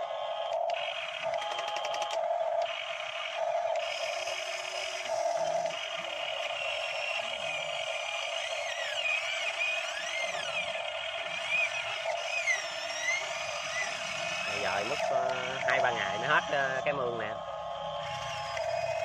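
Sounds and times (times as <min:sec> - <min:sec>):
model excavator motors whirring: 0:00.0 - 0:19.0.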